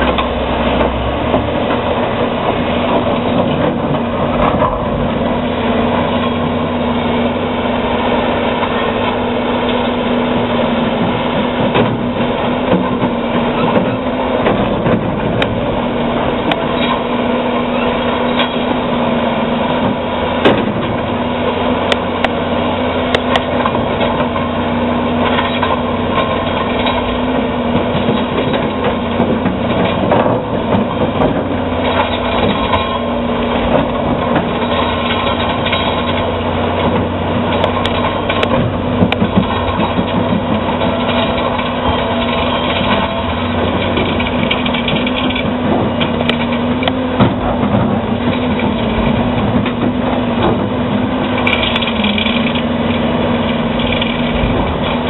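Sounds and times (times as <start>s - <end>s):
bulldozer diesel engine running: 0.0s - 55.0s
knocks and clicks of tracks and rock: 0.0s - 55.0s.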